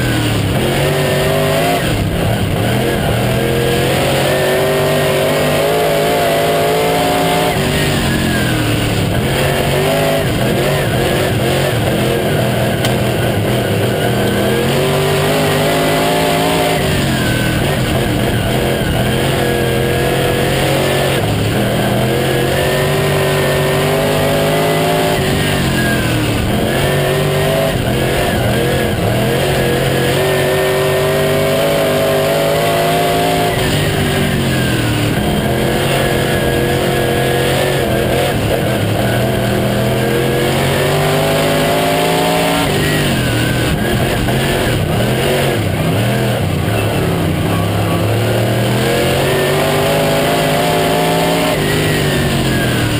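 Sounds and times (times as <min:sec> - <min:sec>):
racing car engine: 0:00.0 - 0:52.9.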